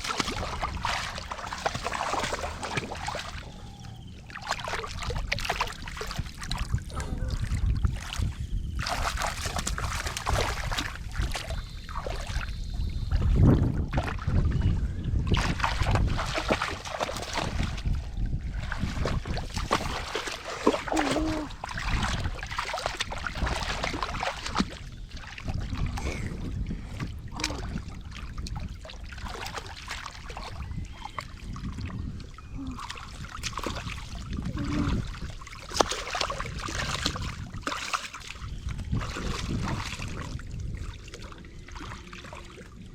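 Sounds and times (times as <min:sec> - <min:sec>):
shallow water splashing: 0:00.0 - 0:42.9.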